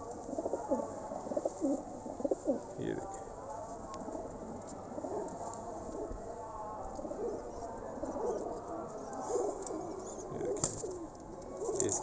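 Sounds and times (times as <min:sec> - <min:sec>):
pigeons cooing: 0:00.0 - 0:03.0, 0:04.1 - 0:06.2, 0:07.0 - 0:12.0.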